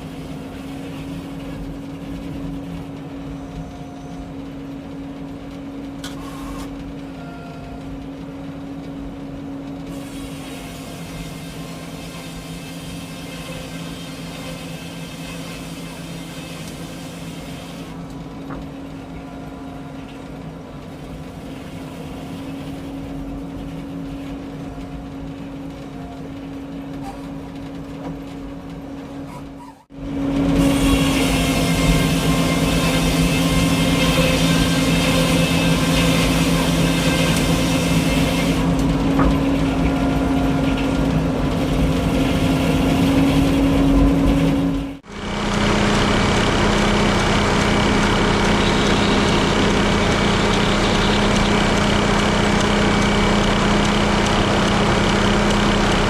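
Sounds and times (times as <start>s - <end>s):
sawmill running hum: 0.0s - 56.0s.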